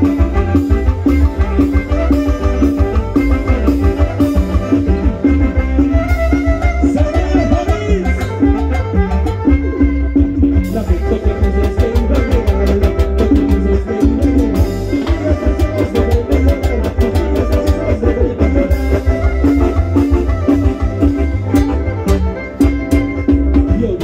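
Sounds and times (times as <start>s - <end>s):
drum kit beat: 0.0s - 24.0s
violins: 0.0s - 24.0s.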